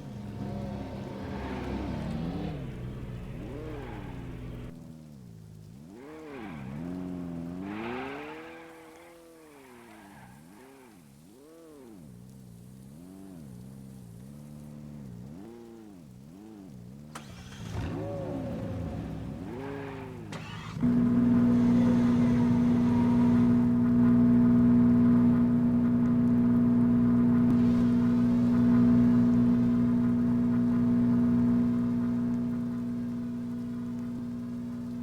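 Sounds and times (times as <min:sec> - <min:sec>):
car engine revving: 0:00.0 - 0:12.2, 0:14.4 - 0:35.0.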